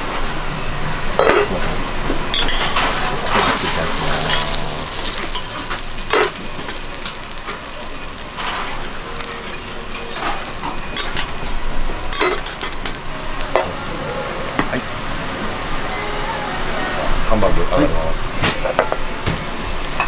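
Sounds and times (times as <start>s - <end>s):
meat sizzling on griddle: 2.4s - 20.0s.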